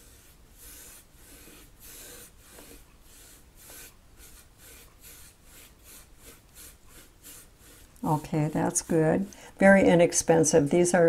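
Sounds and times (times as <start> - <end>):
paintbrush swishing on canvas: 0.0 - 10.8.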